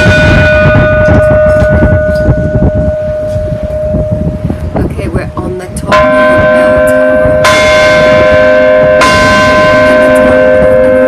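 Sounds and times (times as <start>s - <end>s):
large church bells ringing: 0.0s - 4.4s, 5.0s - 11.0s.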